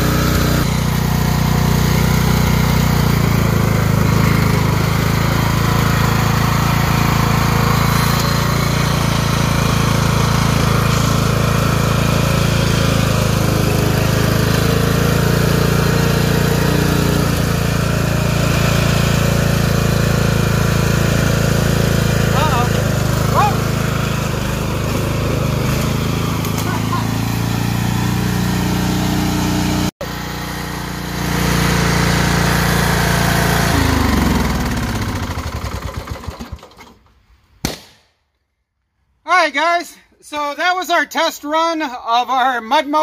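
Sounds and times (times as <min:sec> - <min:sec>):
lawn tractor engine running: 0:00.0 - 0:37.2.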